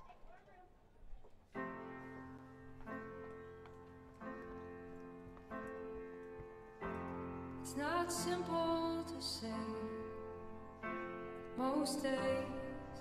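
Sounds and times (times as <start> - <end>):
slow piano chords: 1.5 - 13.0.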